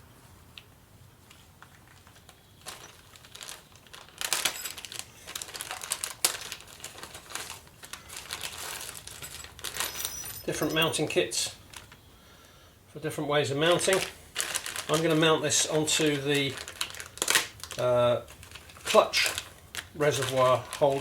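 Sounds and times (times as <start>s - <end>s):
plastic bags crinkling: 1.3s - 12.2s, 13.4s - 21.0s.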